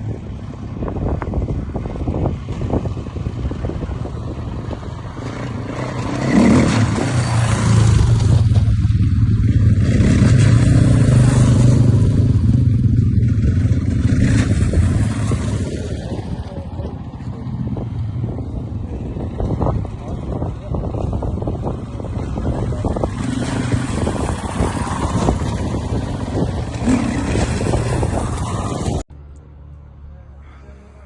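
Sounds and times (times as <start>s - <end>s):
road noise: 0.0s - 31.0s
vehicle engine running: 0.0s - 31.0s
wind: 0.0s - 31.0s.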